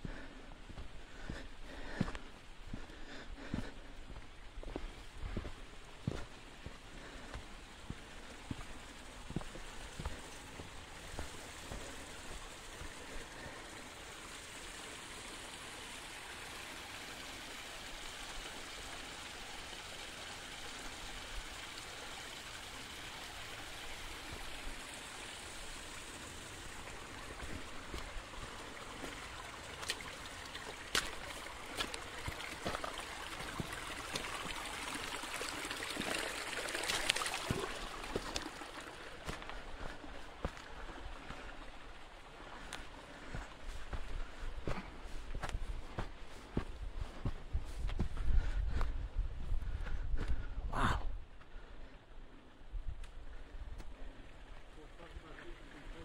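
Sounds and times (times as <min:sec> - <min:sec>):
stream trickling over rocks: 0:00.0 - 0:50.2, 0:51.5 - 0:56.0.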